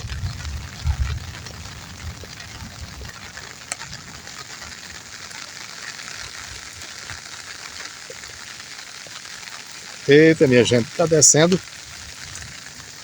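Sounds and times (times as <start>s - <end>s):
rainwater rushing down gully: 0.0s - 13.0s.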